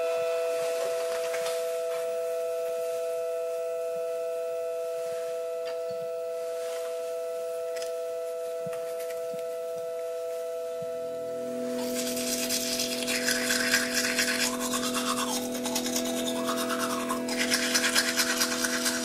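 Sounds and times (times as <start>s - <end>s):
sustained two-note tone: 0.0s - 19.0s.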